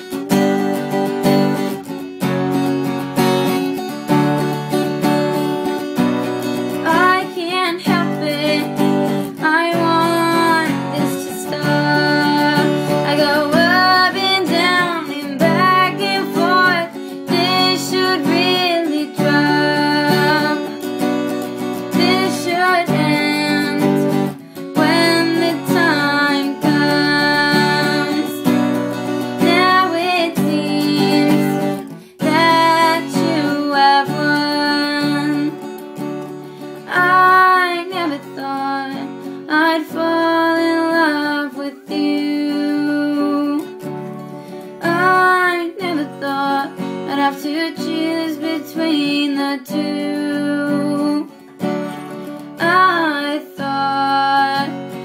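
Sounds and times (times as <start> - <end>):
strummed acoustic guitar: 0.0 - 55.0
girl singing: 3.7 - 55.0.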